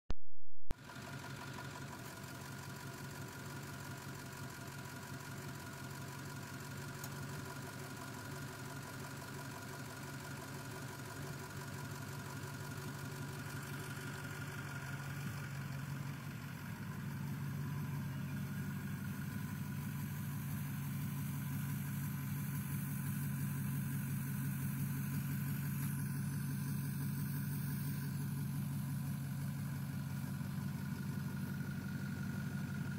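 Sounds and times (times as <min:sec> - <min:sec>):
diesel engine idling: 0:00.8 - 0:32.9.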